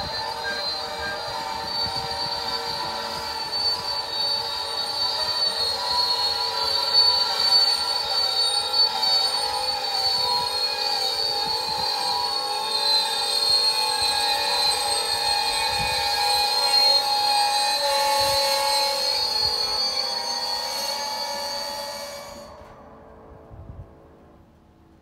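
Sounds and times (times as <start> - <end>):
high-pitched wheel and brake squeal: 0.0 - 23.4
train cars rolling: 0.0 - 25.0.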